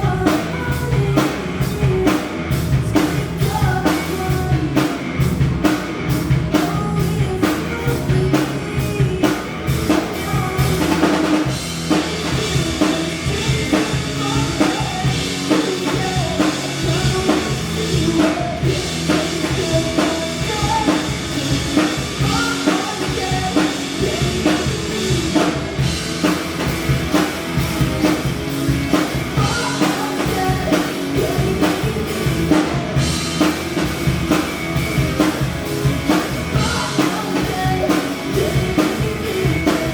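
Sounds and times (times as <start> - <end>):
band playing live: 0.0 - 39.9
drum kit beat with rimshots: 0.0 - 39.9.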